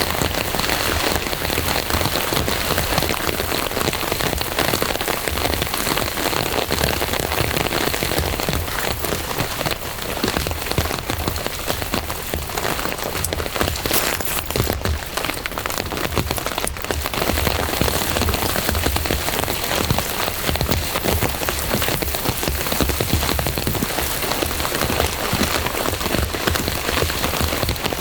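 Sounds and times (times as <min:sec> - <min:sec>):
heavy rain pattering: 0:00.0 - 0:28.0.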